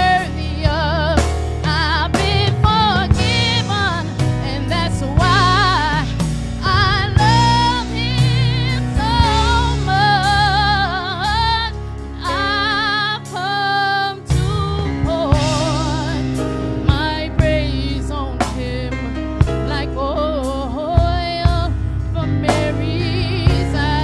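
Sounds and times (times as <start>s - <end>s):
band with steady beat: 0.0s - 13.6s, 14.2s - 24.0s
person singing gospel: 0.0s - 24.0s.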